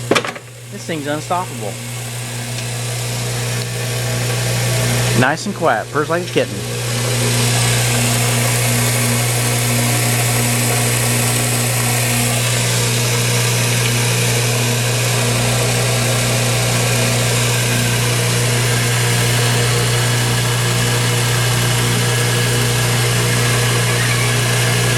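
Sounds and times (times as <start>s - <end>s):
belt sander running: 0.0s - 24.9s.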